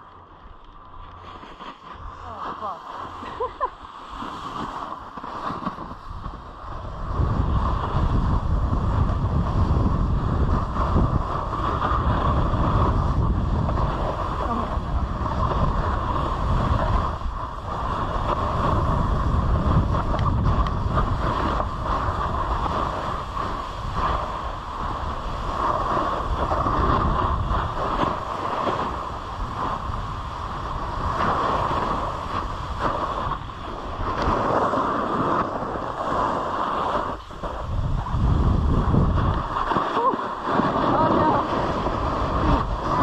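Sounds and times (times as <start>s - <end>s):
wind buffeting microphone: 0.8s - 43.0s
snowboard hissing on snow: 1.6s - 43.0s.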